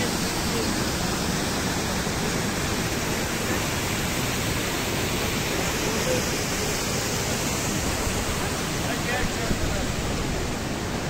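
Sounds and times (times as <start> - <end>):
waterfall rushing: 0.0 - 11.0
white-water rapids: 0.0 - 11.0.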